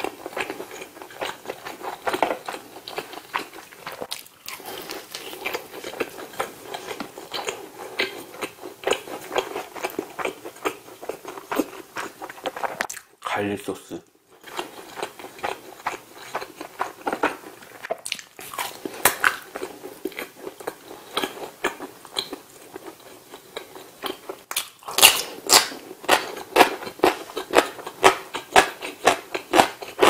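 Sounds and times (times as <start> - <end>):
crunching of fried chicken: 0.0 - 13.2, 14.4 - 30.0.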